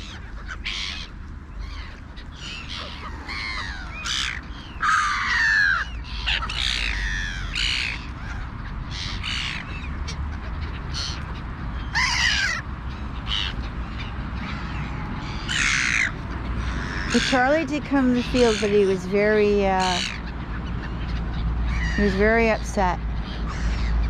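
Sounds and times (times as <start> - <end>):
crows cawing: 0.0 - 10.1, 10.9 - 17.5, 19.8 - 22.2, 23.3 - 24.0
gulls calling: 0.0 - 24.0.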